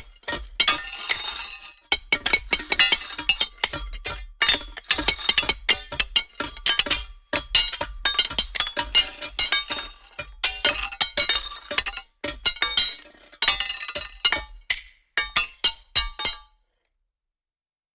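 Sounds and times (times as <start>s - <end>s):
metal clanking against rocks: 0.0s - 16.5s.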